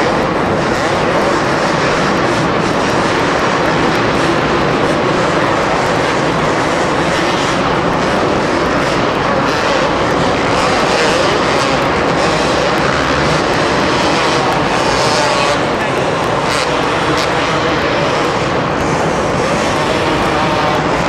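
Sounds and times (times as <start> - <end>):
motorcycle engines buzzing: 0.0 - 21.0.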